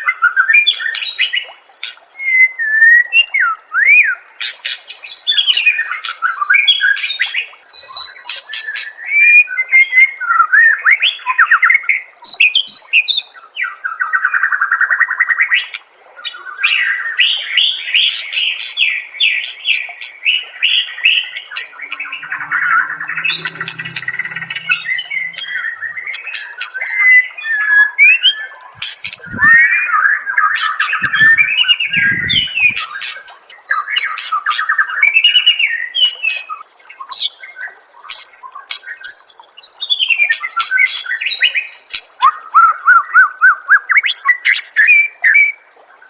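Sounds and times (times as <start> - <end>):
songbird singing whistles and trills: 2.2 - 45.6.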